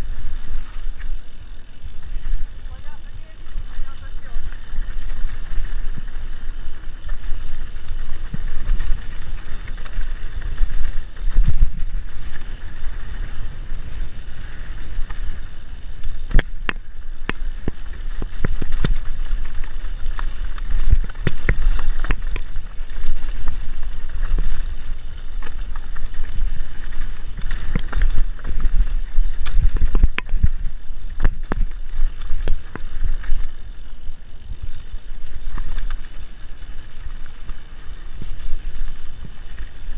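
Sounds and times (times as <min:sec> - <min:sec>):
bike rattling over bumps: 0:00.0 - 0:39.9
tyres rolling on dirt: 0:00.0 - 0:39.9
wind buffeting microphone: 0:00.0 - 0:39.9.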